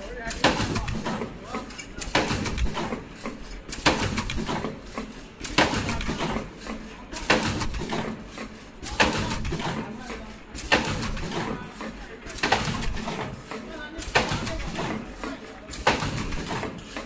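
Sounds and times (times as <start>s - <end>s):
machine clacking: 0.0s - 17.0s
machine running noise: 0.0s - 17.0s.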